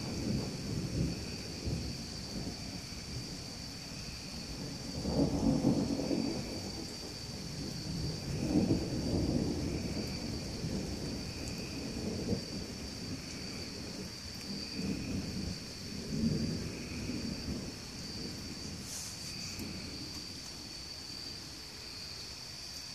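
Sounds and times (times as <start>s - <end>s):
thunder rumbling: 0.0s - 21.6s
steady rain: 0.0s - 22.9s.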